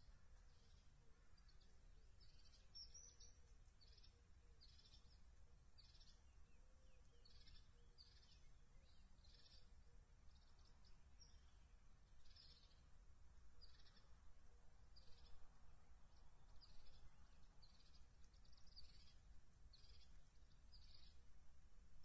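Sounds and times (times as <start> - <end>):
faint high-pitched bird calls: 0.0 - 12.9, 13.6 - 14.2, 14.9 - 15.5, 16.2 - 21.3.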